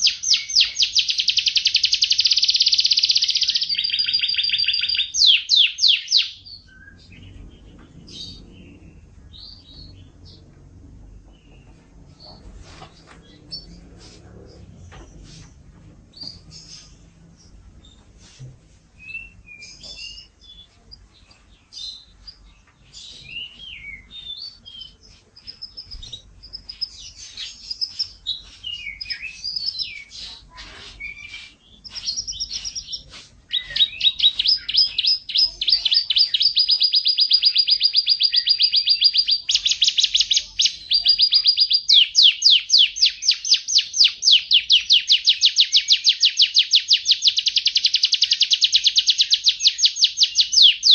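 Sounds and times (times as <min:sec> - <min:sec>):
canary singing: 0:00.0 - 0:15.2, 0:19.0 - 0:50.9.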